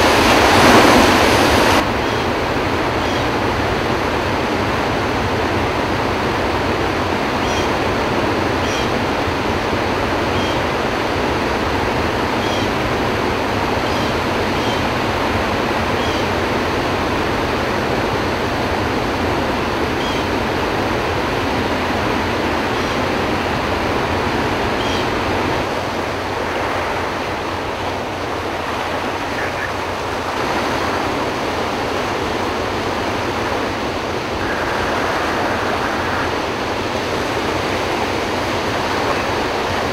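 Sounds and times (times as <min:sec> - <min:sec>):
water rushing through spillway: 0:00.0 - 0:39.9.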